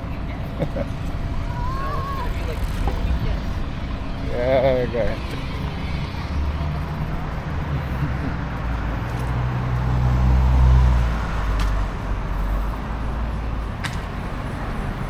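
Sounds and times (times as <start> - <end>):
vehicle passing by: 0.9 - 15.0.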